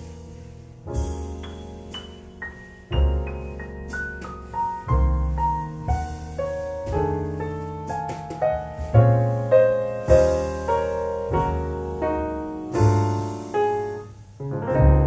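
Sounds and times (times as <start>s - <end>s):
piano music over speakers: 0.0s - 15.0s.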